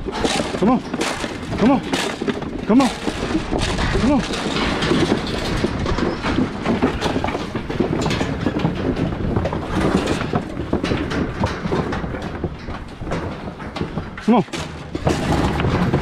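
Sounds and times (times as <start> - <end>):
metal cage rattling and knocking: 0.0 - 16.0.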